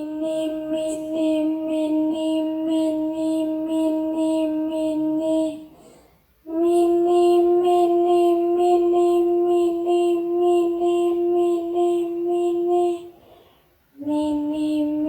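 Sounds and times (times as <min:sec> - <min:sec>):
high-pitched voice chanting: 0:00.0 - 0:05.8, 0:06.5 - 0:13.2, 0:14.0 - 0:15.0.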